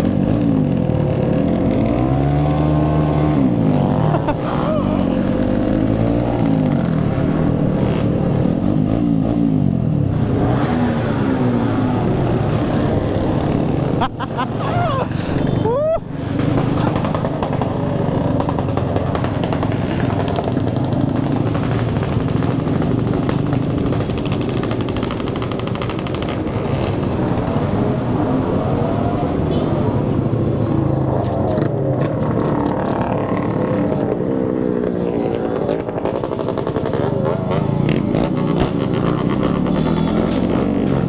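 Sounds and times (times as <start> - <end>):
motorcycle engines revving: 0.0 - 41.0
wind and road noise: 0.0 - 41.0.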